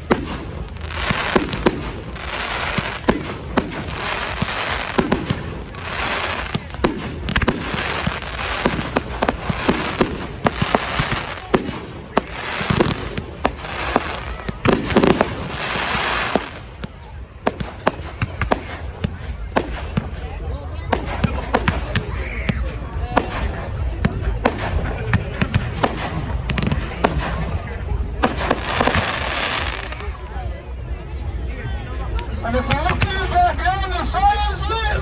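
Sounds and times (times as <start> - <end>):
hissing crackle of fireworks: 0.0 - 30.6
fireworks bangs and cracks: 0.0 - 30.7, 32.2 - 35.0
deep fireworks booms: 0.0 - 30.9.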